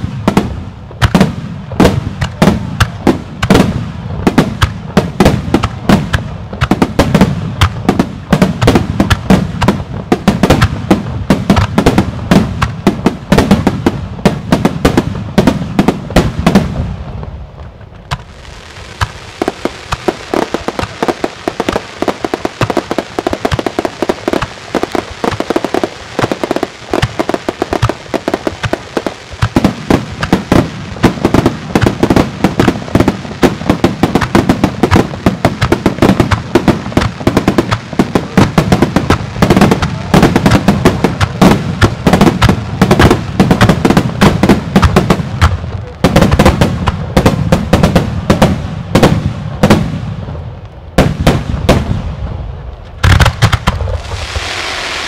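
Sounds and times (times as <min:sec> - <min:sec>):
fireworks bursting rapidly: 0:00.0 - 0:55.0.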